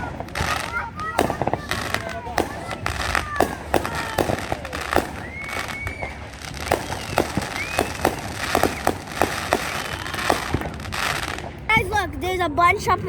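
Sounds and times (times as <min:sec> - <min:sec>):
fireworks popping: 0:00.0 - 0:12.2.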